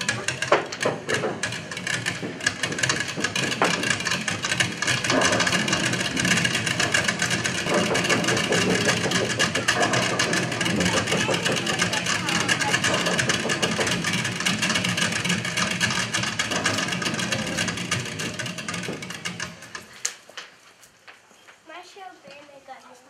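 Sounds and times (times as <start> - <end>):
hail-like rattling patter: 0.0 - 20.5.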